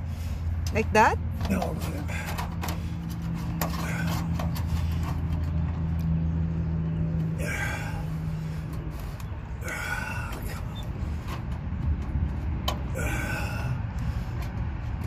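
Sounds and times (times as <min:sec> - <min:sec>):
low engine-like rumble: 0:00.0 - 0:15.0.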